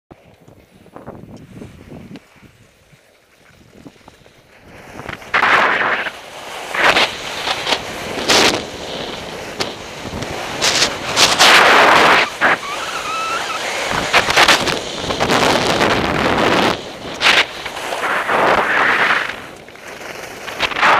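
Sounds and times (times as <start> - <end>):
skis scraping on packed snow: 0.2 - 20.9
wind on microphone: 0.2 - 20.9.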